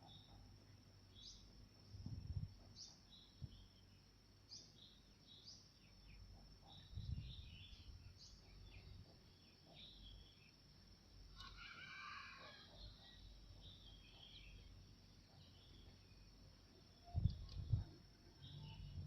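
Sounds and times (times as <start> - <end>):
bird chirping: 0.0 - 1.6, 2.3 - 11.5, 12.6 - 19.0.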